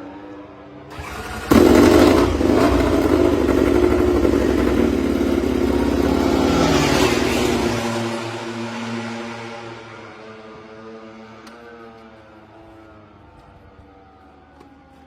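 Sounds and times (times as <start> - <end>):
racing motorcycle engine: 0.0 - 15.0.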